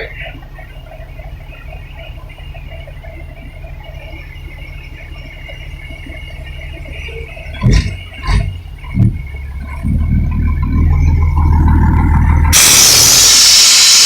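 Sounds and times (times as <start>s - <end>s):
dump truck engine running: 0.0s - 14.0s.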